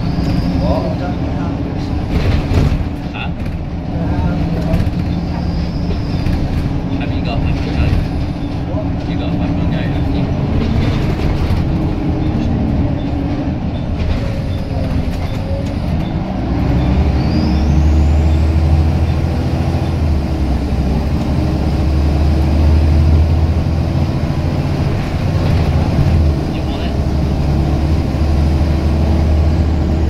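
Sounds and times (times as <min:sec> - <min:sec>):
bus diesel engine pulling hard: 0:00.0 - 0:30.0.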